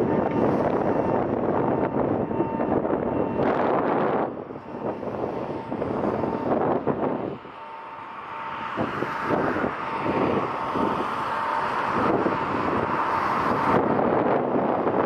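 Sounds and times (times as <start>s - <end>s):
airliner engines whining: 0.0s - 15.0s
wind buffeting microphone: 0.0s - 15.0s.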